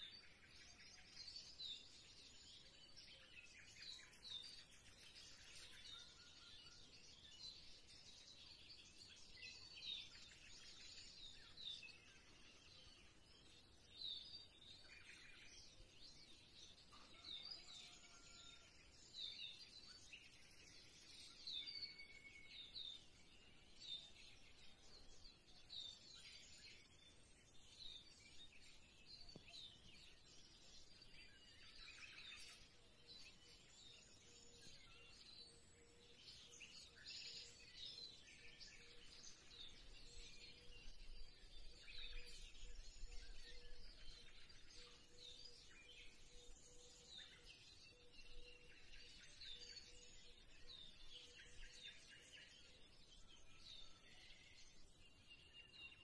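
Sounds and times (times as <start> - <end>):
faint bird chirps: 0.0 - 56.0.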